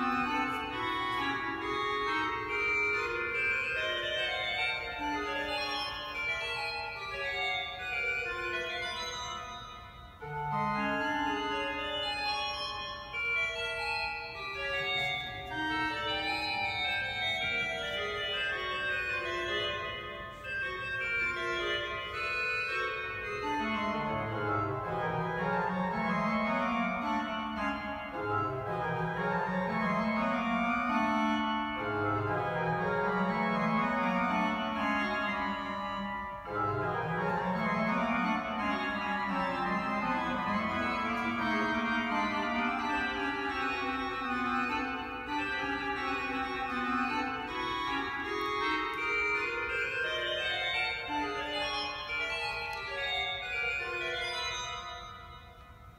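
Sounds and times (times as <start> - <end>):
pipe organ playing: 0.0 - 55.9.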